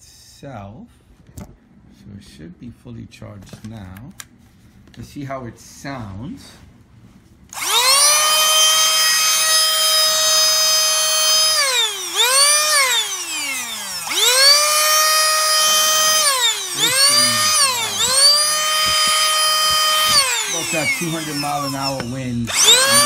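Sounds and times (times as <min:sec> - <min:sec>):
air duster fan whining: 0:00.9 - 0:23.0.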